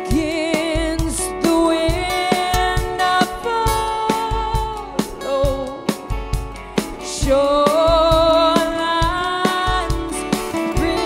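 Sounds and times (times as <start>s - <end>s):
strummed acoustic guitar: 0.0s - 11.0s
woman singing: 0.0s - 11.0s
steady beat: 0.1s - 11.0s.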